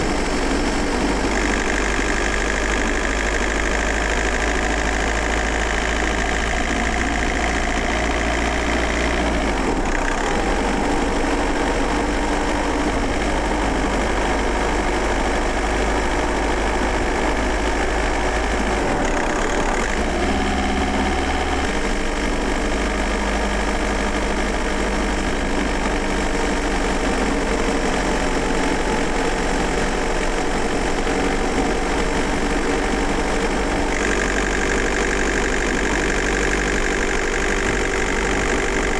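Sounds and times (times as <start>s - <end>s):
diesel engine clatter: 0.0s - 38.9s.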